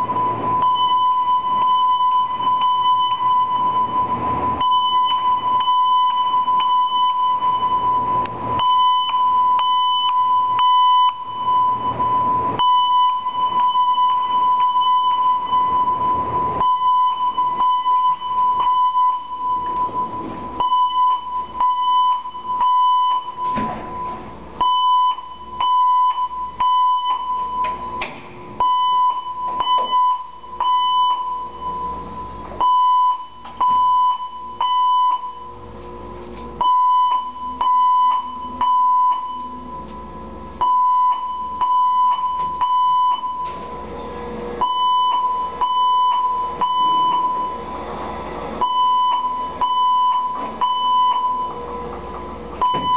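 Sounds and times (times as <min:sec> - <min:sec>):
fire alarm bell ringing: 0:00.0 - 0:28.0, 0:28.6 - 0:35.6, 0:36.6 - 0:43.7, 0:44.6 - 0:47.6, 0:48.6 - 0:51.6, 0:52.6 - 0:52.9.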